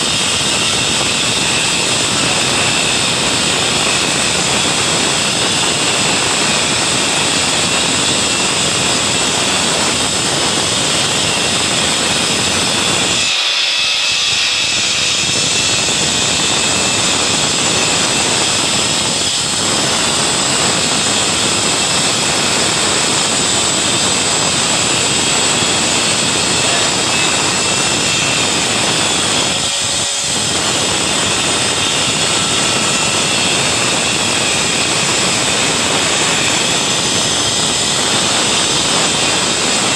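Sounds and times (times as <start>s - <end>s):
wall chaser grinding whine: 0.0s - 39.9s.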